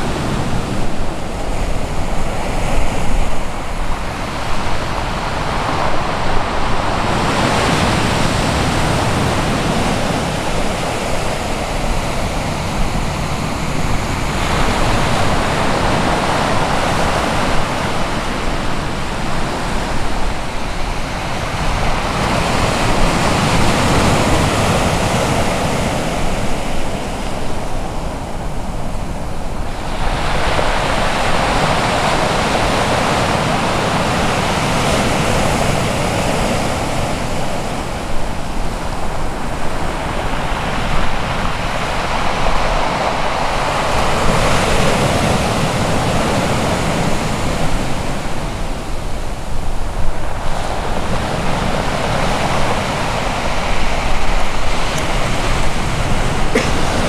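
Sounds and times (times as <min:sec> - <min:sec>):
surf breaking on shore: 0:00.0 - 0:57.0.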